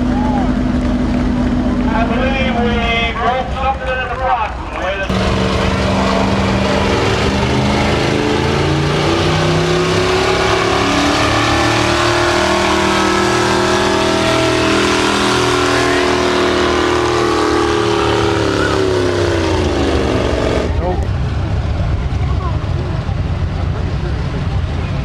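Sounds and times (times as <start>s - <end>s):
truck engine running hard: 0.0s - 25.0s.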